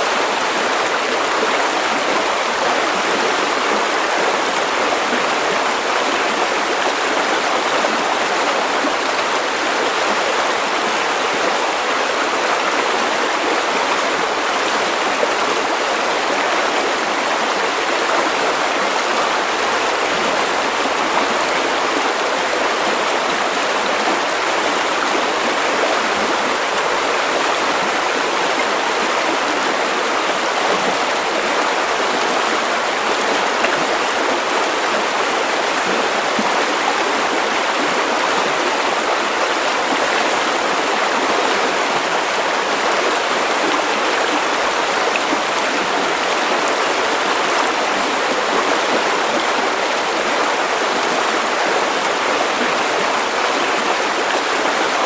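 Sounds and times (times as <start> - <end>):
river water rushing over stones: 0.0 - 55.0.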